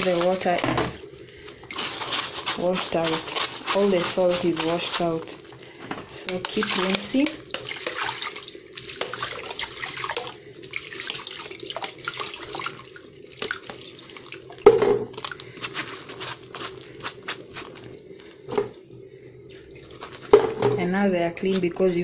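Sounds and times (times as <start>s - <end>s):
water running and splashing: 0.0s - 18.7s, 19.4s - 20.7s.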